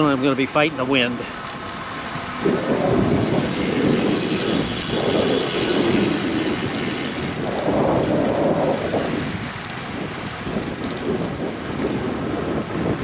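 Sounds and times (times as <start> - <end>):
wind gusts on microphone: 1.6 - 13.0.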